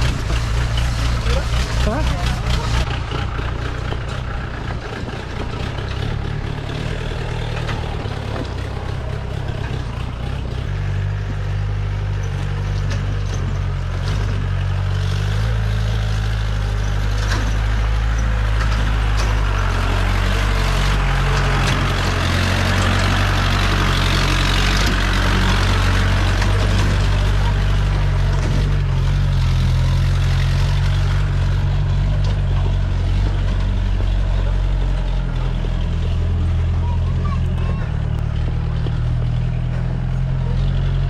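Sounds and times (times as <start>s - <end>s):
jeep engine running: 0.0s - 41.0s.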